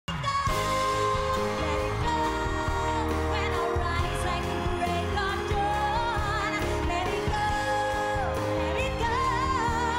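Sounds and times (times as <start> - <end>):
steady bass: 0.2 - 9.9.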